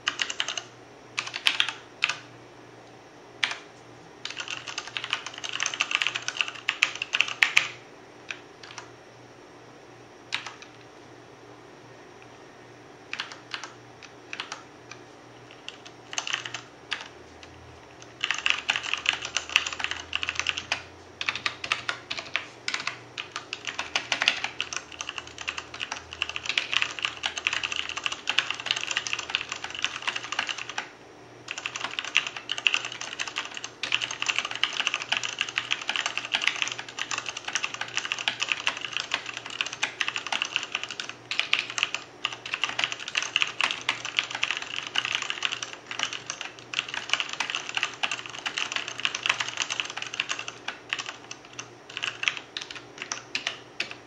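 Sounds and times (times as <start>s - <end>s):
mechanical keyboard typing: 0.0s - 2.2s, 3.4s - 3.6s, 4.2s - 8.9s, 10.3s - 10.8s, 13.1s - 30.9s, 31.5s - 54.0s.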